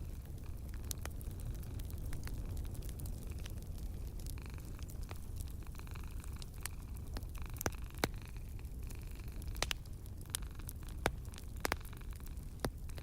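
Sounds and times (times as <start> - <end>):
flames rumbling and hissing: 0.0 - 13.0
wood fire crackling: 0.0 - 13.0.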